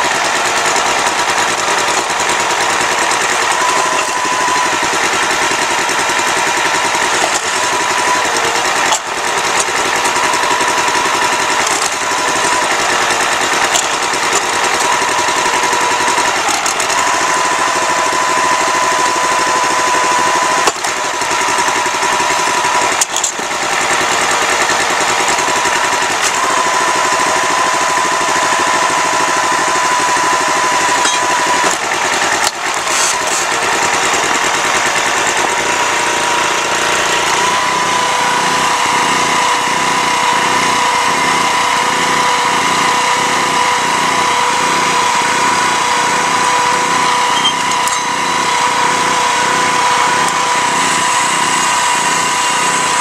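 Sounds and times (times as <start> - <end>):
small gasoline engine running: 0.0 - 53.0.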